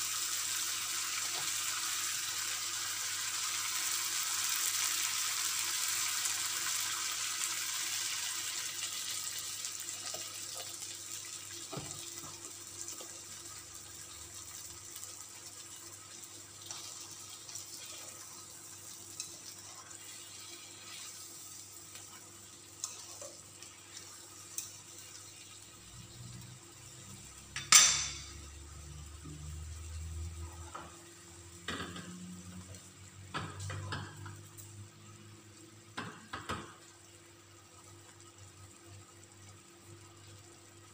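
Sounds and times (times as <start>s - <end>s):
chicken sizzling in a pan: 0.0s - 40.9s.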